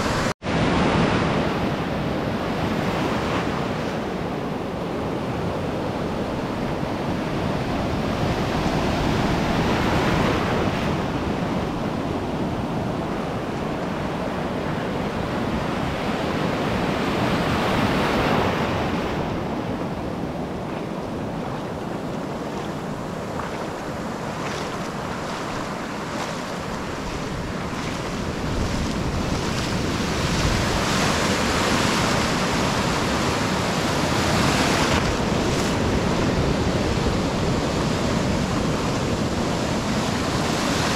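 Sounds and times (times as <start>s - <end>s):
surf washing up a beach: 0.0s - 40.9s.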